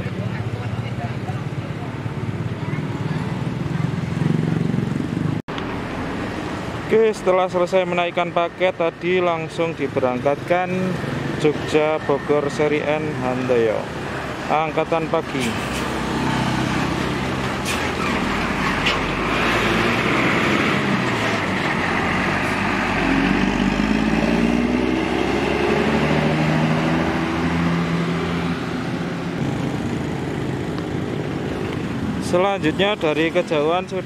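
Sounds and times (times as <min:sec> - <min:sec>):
coach diesel engine accelerating: 0:06.7 - 0:34.0.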